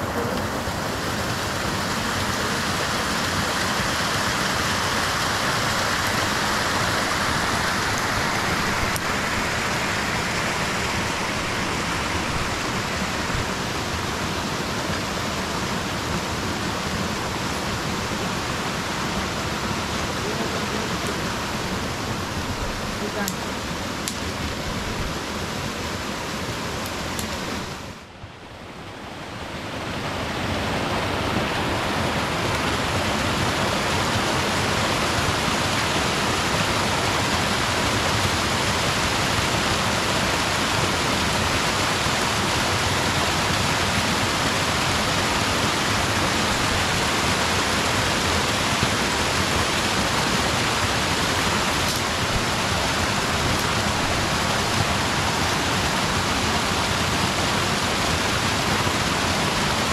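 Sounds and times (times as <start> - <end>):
flowing river water: 0.0 - 59.9.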